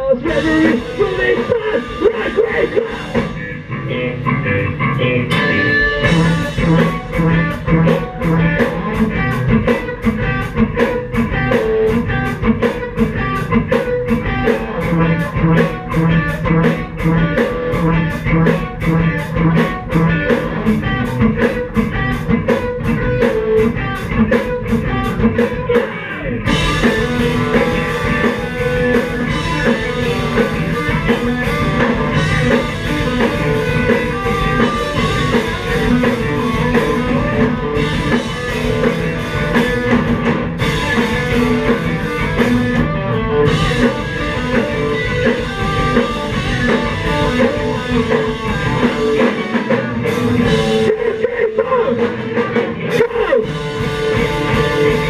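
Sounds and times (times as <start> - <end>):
live rock band: 0.0 - 55.0.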